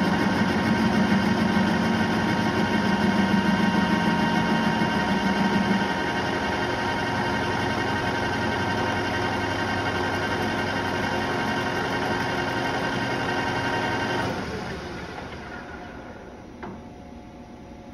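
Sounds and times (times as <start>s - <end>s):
metal lathe humming and whining: 0.0s - 16.3s
loud low hum: 0.0s - 17.9s.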